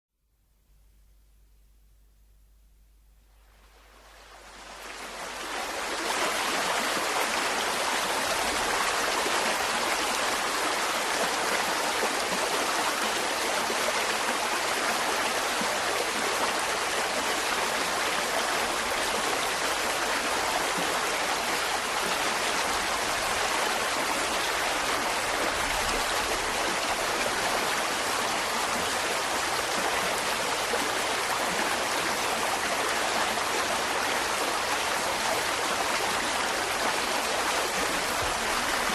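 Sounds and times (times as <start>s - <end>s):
stream flowing over rocks: 3.5s - 38.9s.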